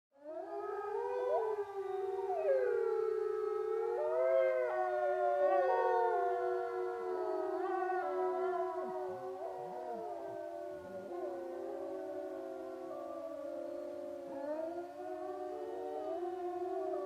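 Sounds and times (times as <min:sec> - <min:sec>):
wolves howling in chorus: 0:00.2 - 0:17.0.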